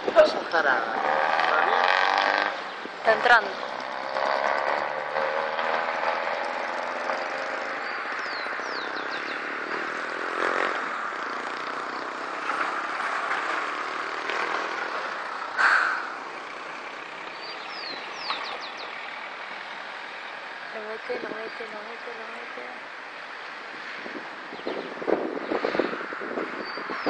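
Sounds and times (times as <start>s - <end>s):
car engines running: 0.0s - 27.0s.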